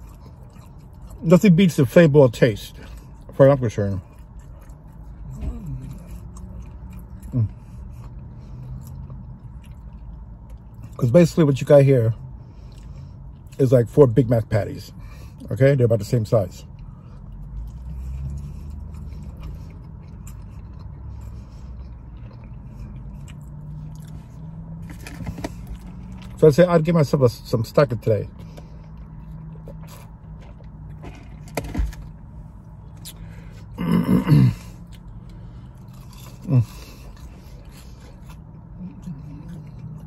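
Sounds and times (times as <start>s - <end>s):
man chewing food: 0.0s - 2.1s, 2.7s - 11.0s, 12.3s - 13.6s, 16.7s - 26.4s, 28.3s - 40.0s
burger eating and handling: 0.0s - 40.0s
low steady hum: 0.0s - 40.0s.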